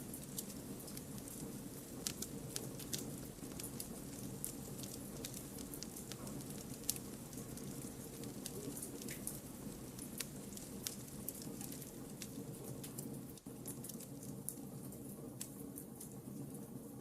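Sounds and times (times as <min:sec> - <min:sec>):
campfire low rumble: 0:00.0 - 0:17.0
fire crackles and pops: 0:00.0 - 0:17.0.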